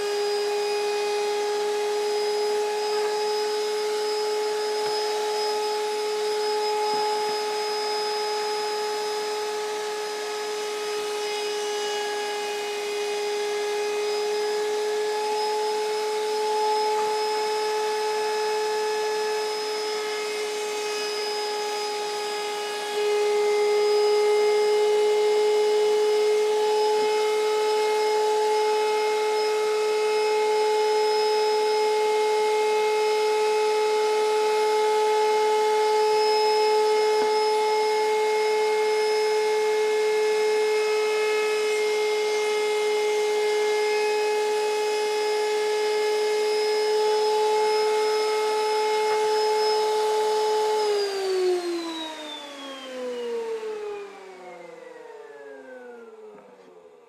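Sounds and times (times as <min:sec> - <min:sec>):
electric router whining: 0:00.0 - 0:57.0.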